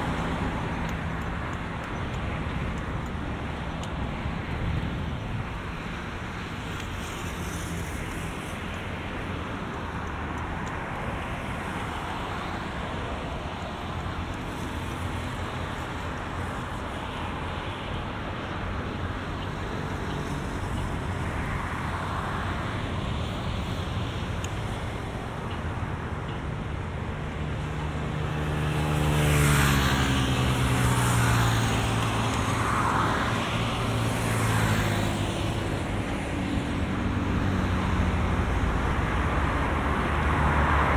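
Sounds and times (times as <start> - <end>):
road traffic: 0.0 - 40.9.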